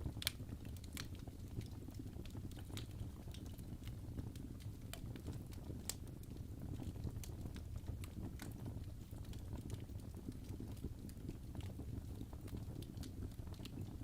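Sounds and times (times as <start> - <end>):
fire pops and snaps: 0.0 - 14.0
wood fire crackling: 0.0 - 14.0.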